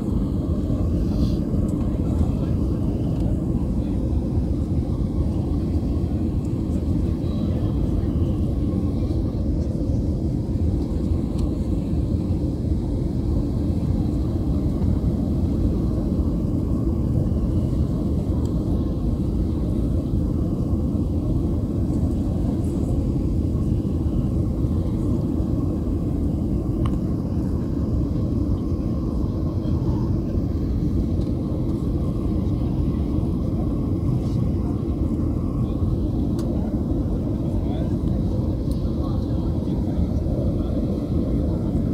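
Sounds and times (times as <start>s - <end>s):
airliner cabin engine noise: 0.0s - 41.9s.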